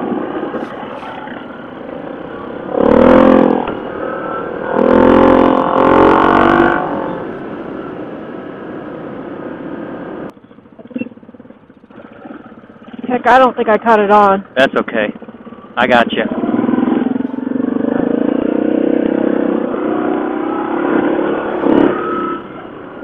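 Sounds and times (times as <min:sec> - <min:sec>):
atv engine revving: 0:00.0 - 0:08.0, 0:10.3 - 0:23.0.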